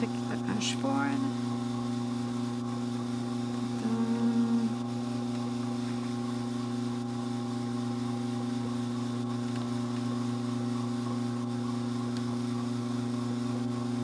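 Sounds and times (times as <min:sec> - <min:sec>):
drum carder motor humming: 0:00.0 - 0:14.0.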